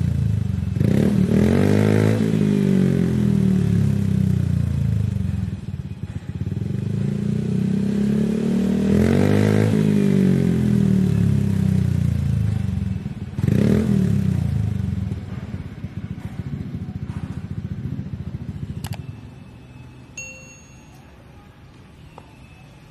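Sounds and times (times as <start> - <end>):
scooter engine idling and revving: 0.0 - 20.5.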